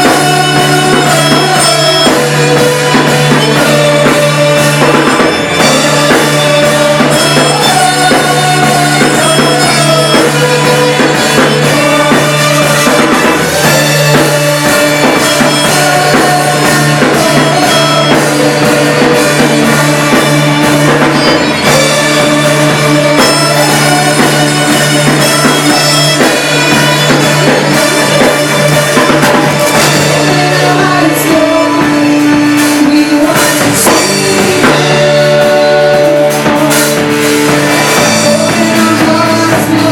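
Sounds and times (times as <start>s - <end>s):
bass: 0.0s - 39.9s
drum kit: 0.0s - 39.9s
live band playing loudly: 0.0s - 39.9s.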